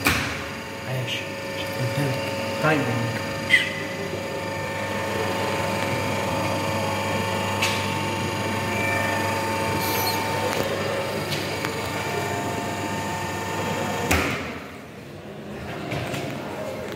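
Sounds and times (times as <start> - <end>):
electric motor humming: 0.0 - 14.1.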